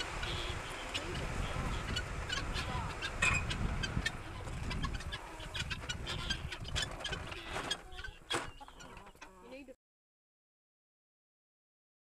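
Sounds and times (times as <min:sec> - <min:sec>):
chickens clucking: 0:00.0 - 0:09.7.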